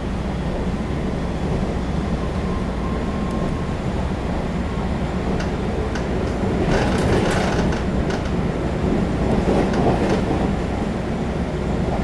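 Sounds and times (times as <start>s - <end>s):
hissing rush of train noise: 0.0s - 12.0s
train wheels rumbling on rail: 0.0s - 12.0s.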